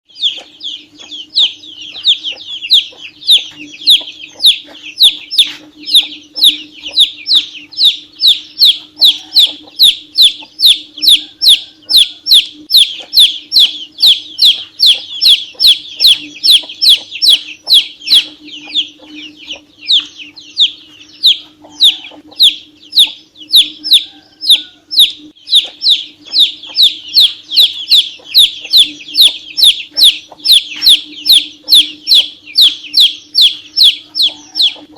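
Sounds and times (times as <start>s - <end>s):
chick peeping loudly: 0.1s - 34.9s.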